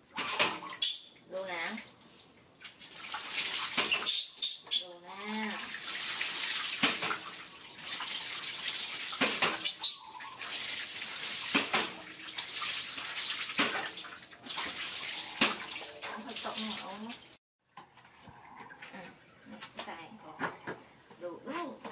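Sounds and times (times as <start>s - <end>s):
water pouring and splashing: 0.0s - 20.9s.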